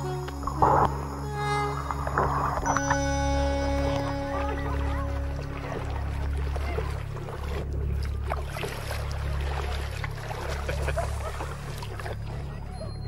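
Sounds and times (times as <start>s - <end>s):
water lapping against kayak: 0.0s - 13.0s.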